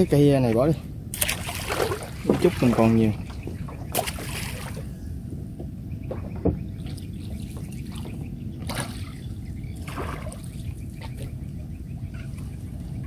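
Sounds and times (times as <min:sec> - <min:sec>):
water splashing and trickling: 0:00.0 - 0:05.0, 0:06.1 - 0:13.0
low background rumble: 0:00.0 - 0:13.0.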